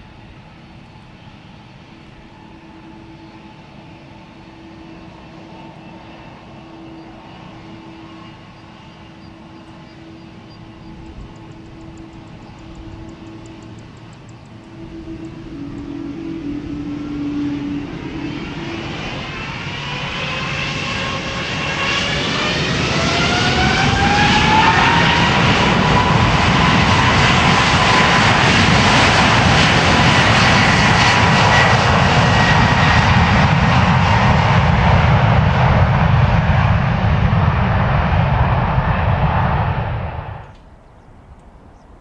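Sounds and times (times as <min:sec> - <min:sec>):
jet engine whine rising: 0:00.0 - 0:42.0
jet roar: 0:00.0 - 0:42.0.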